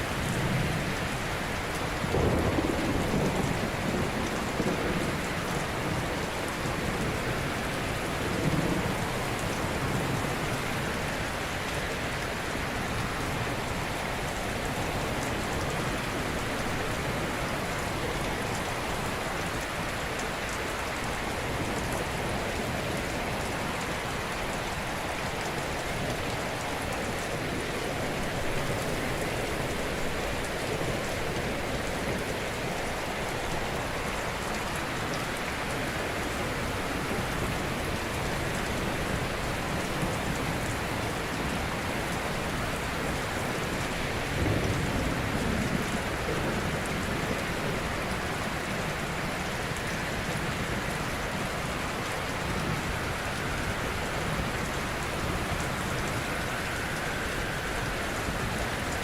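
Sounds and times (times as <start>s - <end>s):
ocean surf washing on shore: 0.0s - 59.0s.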